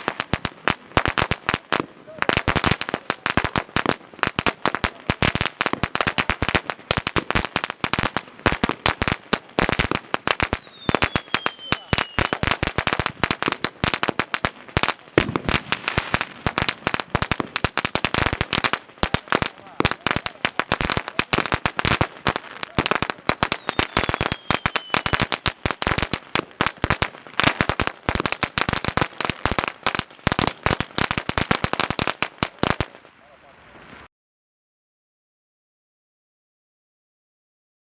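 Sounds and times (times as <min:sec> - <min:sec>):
firecracker roll bangs: 0:00.0 - 0:33.0.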